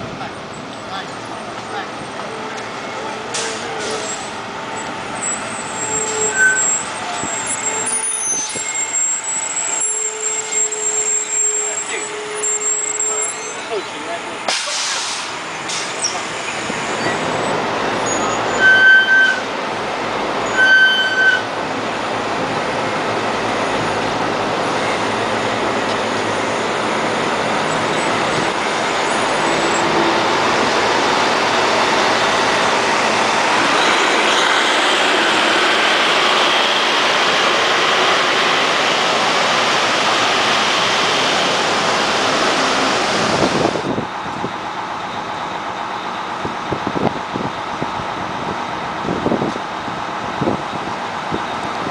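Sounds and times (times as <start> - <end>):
bus diesel engine running: 0.0 - 10.8, 11.6 - 51.9.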